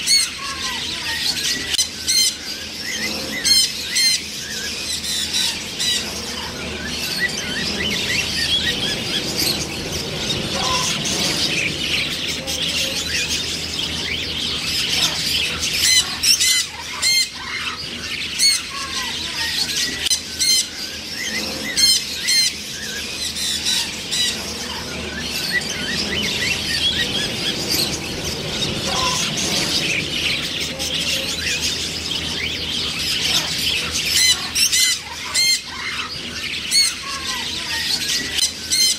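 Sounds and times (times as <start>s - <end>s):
macaws squawking: 0.0s - 38.9s
many birds chattering: 0.0s - 38.9s.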